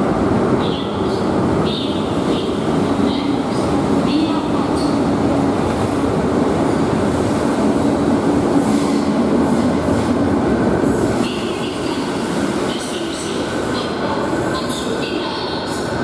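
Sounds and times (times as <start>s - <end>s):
electric train hum: 0.0s - 16.0s.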